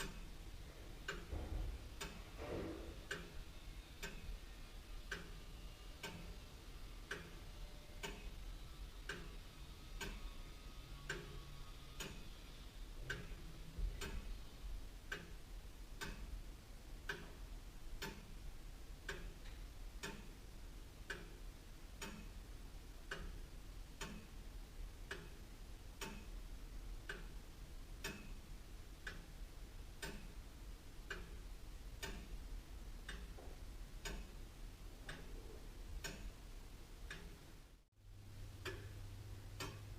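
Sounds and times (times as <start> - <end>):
clock ticking: 0.0 - 37.8, 38.4 - 39.9.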